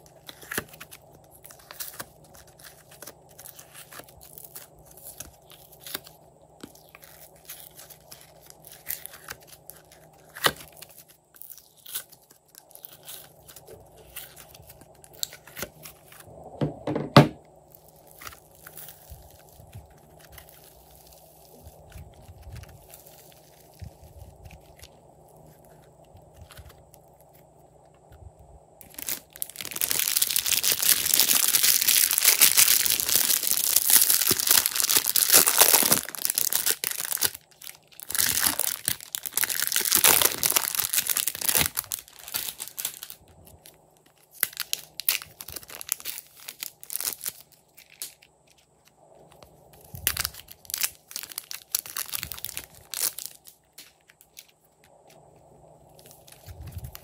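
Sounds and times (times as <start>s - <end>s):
plastic wrapping crinkling: 0.0s - 28.2s, 28.8s - 57.0s.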